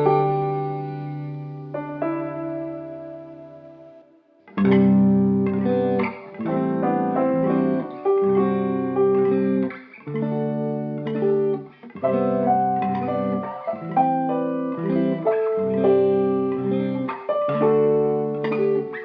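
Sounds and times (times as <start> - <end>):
plucked guitar music: 0.0 - 3.9, 4.5 - 19.0.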